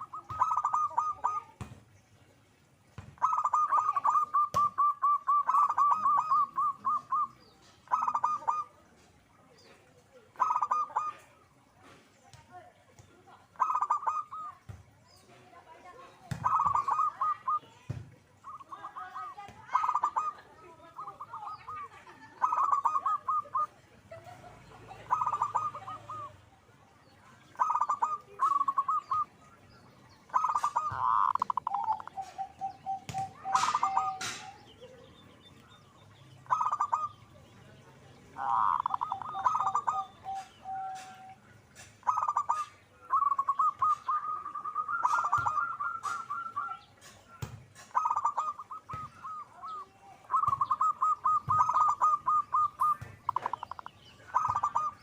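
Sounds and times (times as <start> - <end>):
dove cooing: 0.0 - 1.7, 3.1 - 9.0, 9.6 - 11.6, 13.5 - 14.6, 15.9 - 17.8, 18.4 - 26.4, 27.4 - 35.8, 36.4 - 37.2, 38.3 - 55.0.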